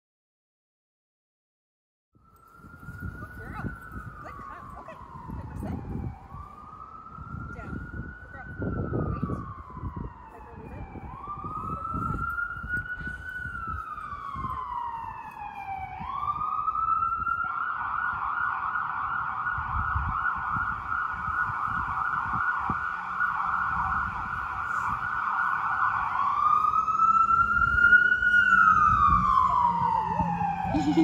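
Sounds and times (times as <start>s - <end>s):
emergency siren wailing and yelping: 2.2s - 31.0s.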